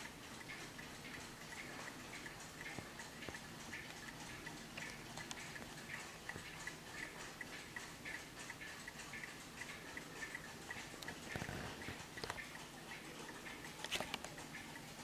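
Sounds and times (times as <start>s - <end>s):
mantel clock ticking: 0.0s - 15.0s.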